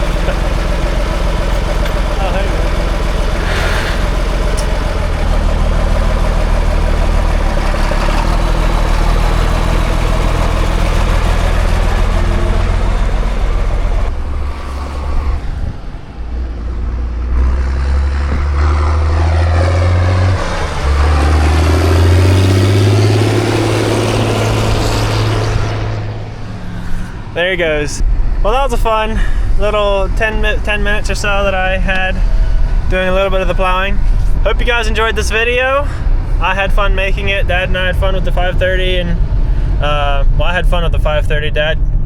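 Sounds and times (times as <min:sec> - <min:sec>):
tractor engine revving: 0:00.0 - 0:42.0.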